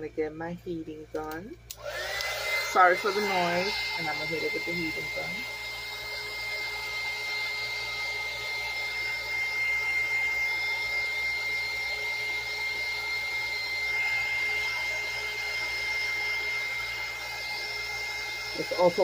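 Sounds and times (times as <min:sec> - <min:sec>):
heat gun blowing with whine: 0:01.4 - 0:19.0.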